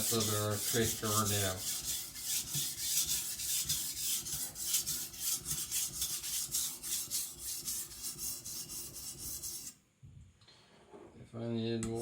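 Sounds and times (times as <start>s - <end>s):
knife rasping on whetstone: 0.0s - 9.8s.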